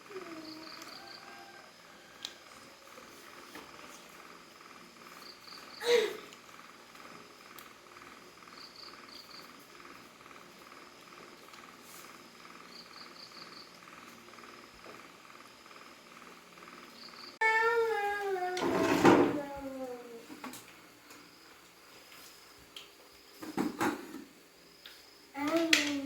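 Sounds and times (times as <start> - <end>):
crickets chirping: 0.0 - 17.4, 21.0 - 26.0
insect drone: 0.0 - 26.0.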